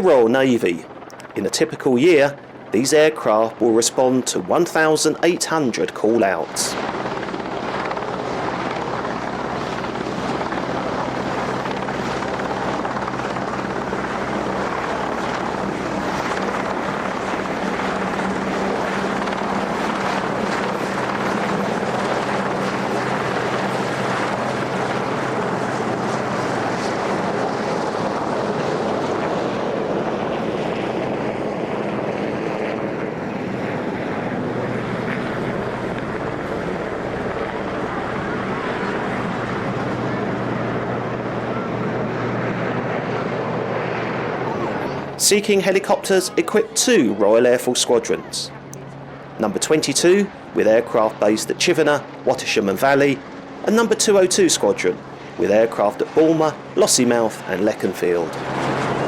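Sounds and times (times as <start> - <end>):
helicopter running: 0.0 - 59.0.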